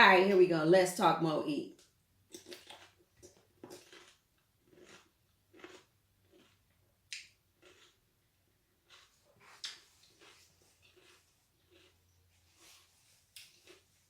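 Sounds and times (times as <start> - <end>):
crunching and chewing pickle: 1.8 - 14.0.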